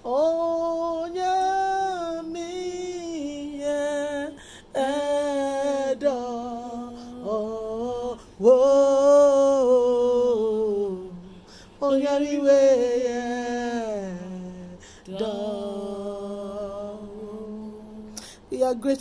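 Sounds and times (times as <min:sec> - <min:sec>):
person singing unaccompanied: 0:00.0 - 0:19.0.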